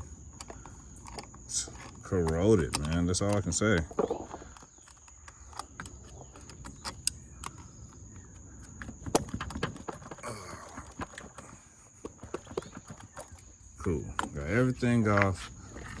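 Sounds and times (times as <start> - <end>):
hand tools clicking on metal: 0.0 - 16.0.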